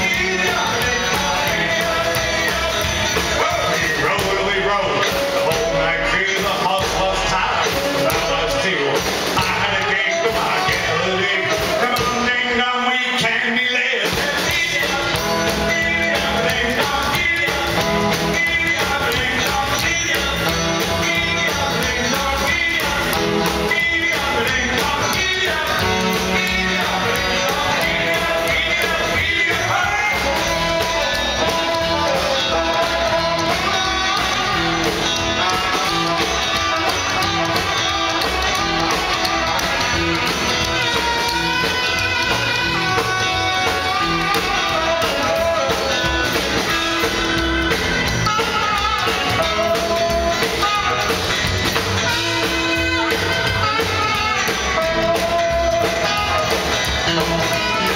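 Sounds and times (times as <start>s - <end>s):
drums: 0.0s - 57.9s
electric guitars: 0.0s - 57.9s
man singing: 0.0s - 57.9s
upright bass: 0.0s - 57.9s.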